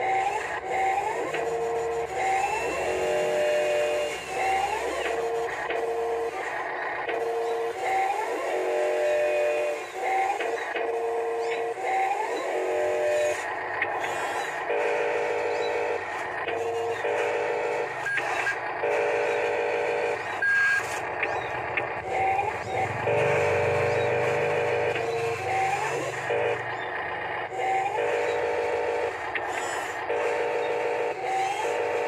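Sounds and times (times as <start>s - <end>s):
small electric motors whining: 0.0s - 32.0s.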